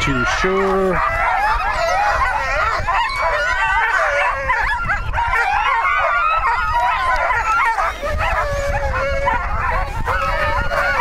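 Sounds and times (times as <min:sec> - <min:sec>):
sled dogs barking and howling: 0:00.0 - 0:11.0.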